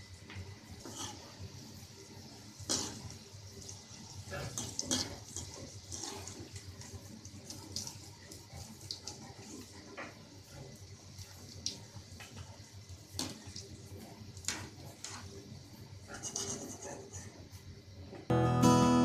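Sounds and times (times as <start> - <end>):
food deep-frying in oil: 0.0 - 18.1.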